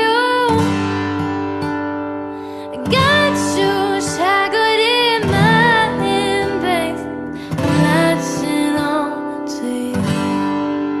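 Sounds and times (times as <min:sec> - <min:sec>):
person singing slow ballad: 0:00.0 - 0:01.1, 0:02.3 - 0:11.0.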